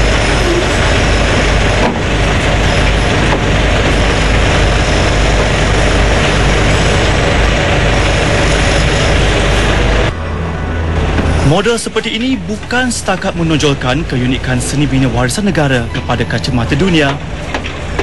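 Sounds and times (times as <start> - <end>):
crane engine running under load: 0.0 - 18.0.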